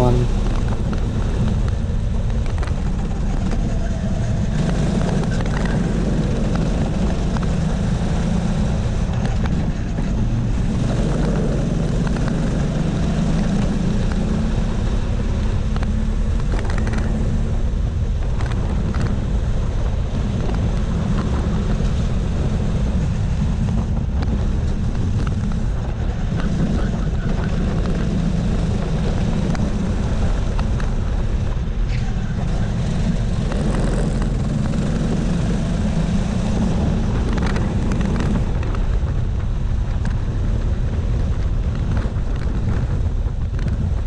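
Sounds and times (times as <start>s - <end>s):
go-kart engine running hard: 0.0s - 44.0s.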